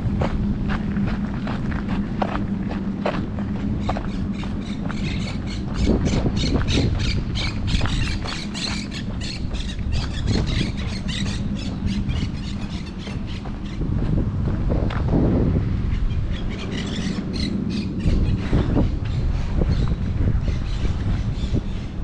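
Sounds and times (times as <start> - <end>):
steady low hum: 0.0 - 22.0
birds squawking: 1.5 - 14.0, 15.8 - 22.0.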